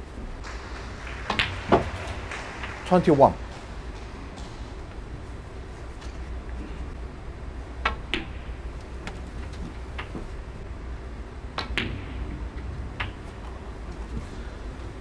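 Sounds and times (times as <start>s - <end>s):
low hall hum: 0.0s - 15.0s
snooker balls clicking: 0.0s - 15.0s.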